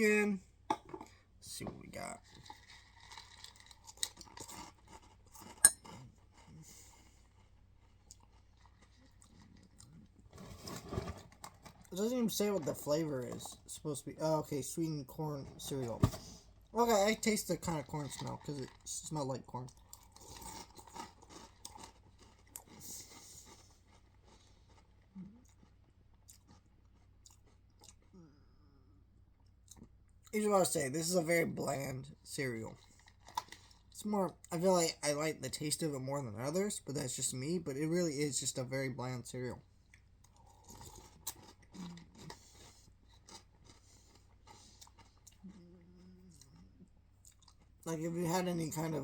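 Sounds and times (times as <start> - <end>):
chewing cereal: 1.9 - 14.0, 14.7 - 28.7, 29.3 - 30.4, 31.0 - 34.7, 39.7 - 49.0.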